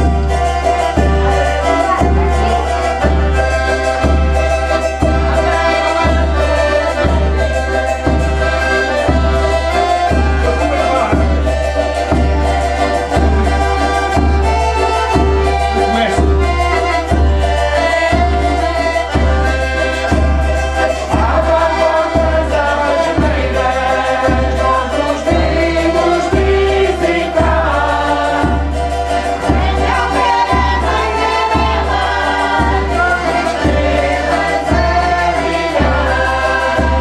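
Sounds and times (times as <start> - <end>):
accordion playing folk tune: 0.0 - 37.0
steady low beat: 0.0 - 37.0.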